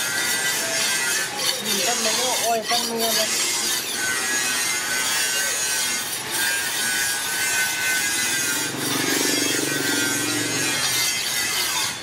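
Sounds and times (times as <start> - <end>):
blade scraping on brick: 0.0 - 12.0.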